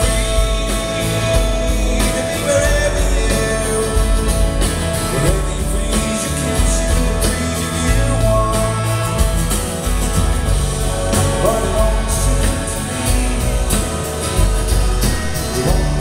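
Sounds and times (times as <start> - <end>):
person singing: 0.0 - 9.9, 10.8 - 16.0
acoustic guitar strumming: 0.0 - 16.0
bass guitar: 0.0 - 16.0.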